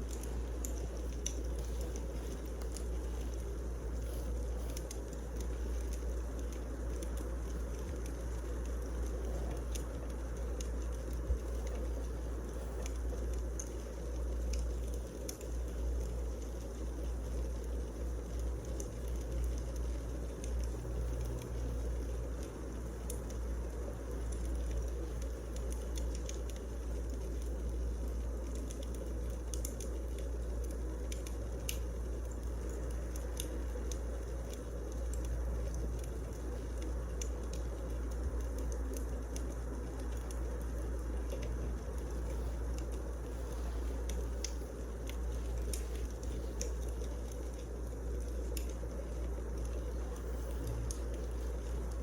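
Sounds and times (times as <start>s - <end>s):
fire low rumble: 0.0s - 52.0s
logs crackling and popping: 0.0s - 52.0s.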